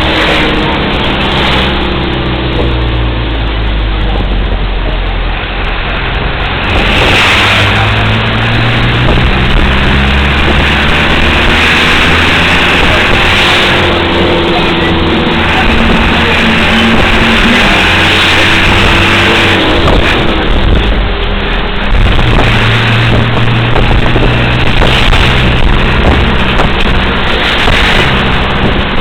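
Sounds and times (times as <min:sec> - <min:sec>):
road noise: 0:00.0 - 0:29.0
truck engine running: 0:00.0 - 0:29.0
wind noise: 0:00.0 - 0:29.0.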